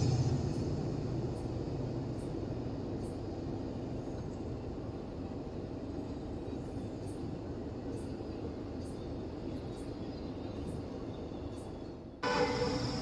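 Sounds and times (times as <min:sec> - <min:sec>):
train coaches rumbling on track: 0:00.0 - 0:13.0.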